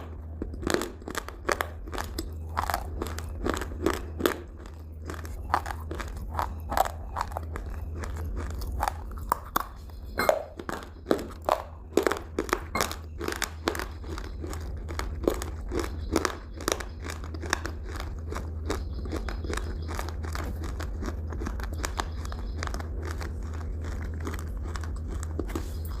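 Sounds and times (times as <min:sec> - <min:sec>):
crisp food crunching: 0:00.0 - 0:26.0.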